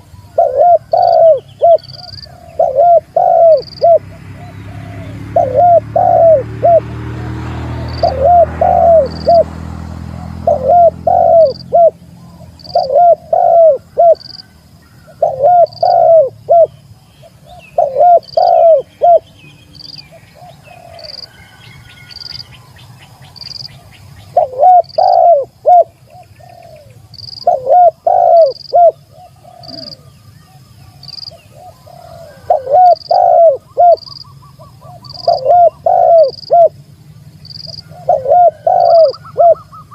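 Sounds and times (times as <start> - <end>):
dove cooing: 0.0 - 19.3, 20.0 - 22.4, 23.2 - 36.8, 37.5 - 39.9.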